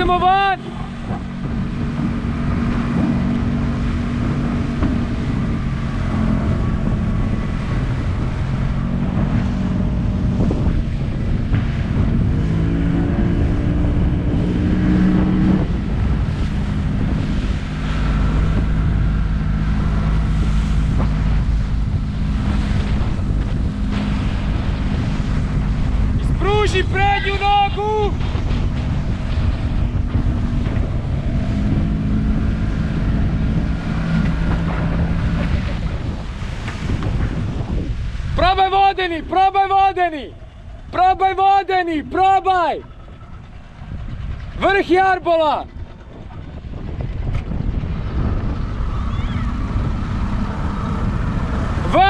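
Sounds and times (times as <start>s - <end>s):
motorboat engine running: 0.0s - 52.0s
water rushing along hull: 0.0s - 52.0s
wind buffeting microphone: 0.0s - 52.0s.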